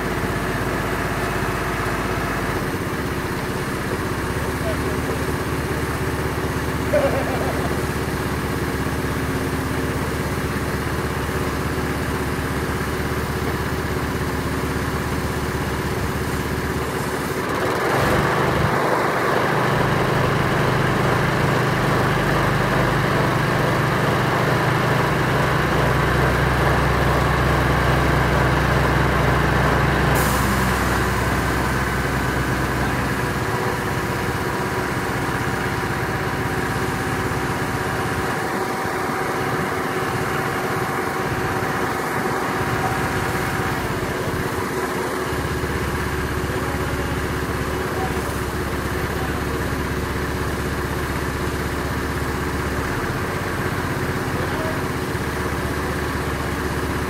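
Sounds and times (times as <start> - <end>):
crane engine running: 0.0 - 57.0.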